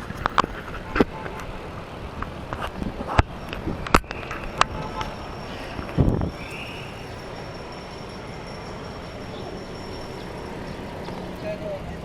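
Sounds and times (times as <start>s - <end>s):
bicycle road and wind noise: 0.0s - 12.0s.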